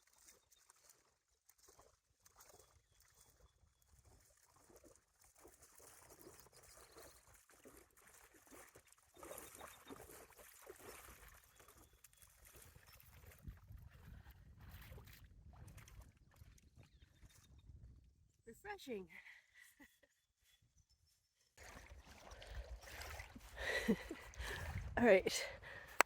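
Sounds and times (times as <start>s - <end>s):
lake water splashing and lapping: 0.0s - 18.3s, 21.6s - 26.0s.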